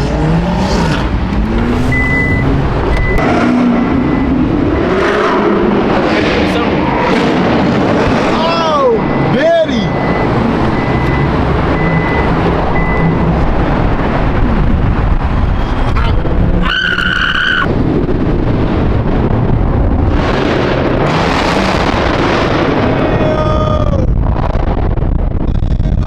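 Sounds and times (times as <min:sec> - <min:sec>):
car engines rumbling: 0:00.0 - 0:26.0.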